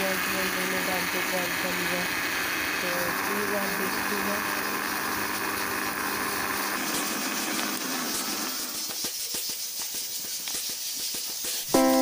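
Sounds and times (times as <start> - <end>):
blender motor humming: 0.0 - 10.5.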